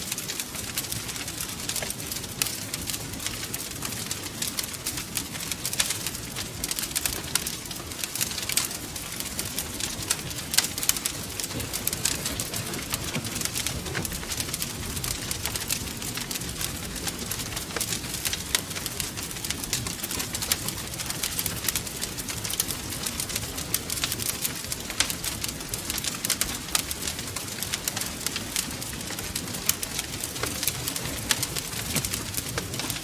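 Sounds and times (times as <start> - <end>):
fire pops and snaps: 0.0 - 33.0
low rumble of burning: 0.0 - 33.0.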